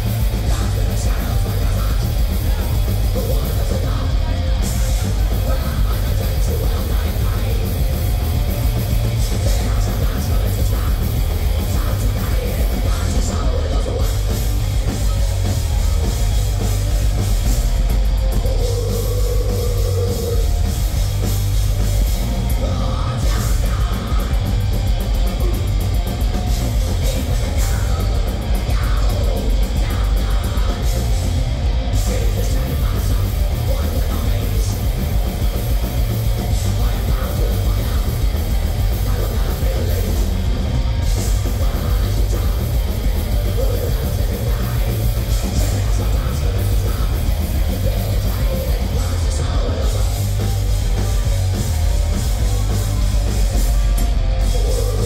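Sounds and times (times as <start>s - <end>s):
bass guitar: 0.0s - 55.0s
distorted electric guitars: 0.0s - 55.0s
drum kit: 0.0s - 55.0s.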